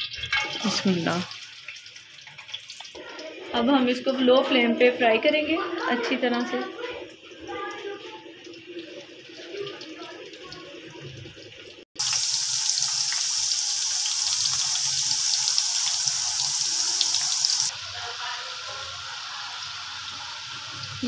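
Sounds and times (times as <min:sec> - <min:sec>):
fries sizzling in hot oil: 0:00.0 - 0:21.0.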